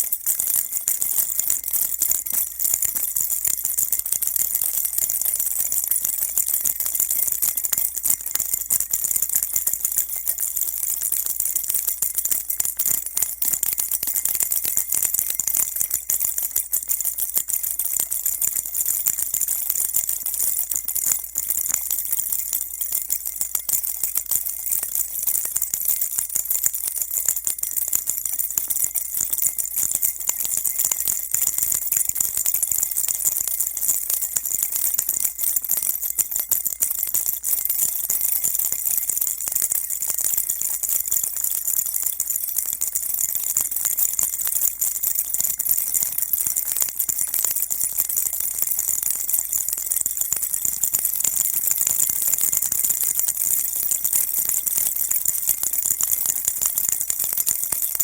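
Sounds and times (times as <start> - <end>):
baby rattle shaken: 0.0 - 58.0.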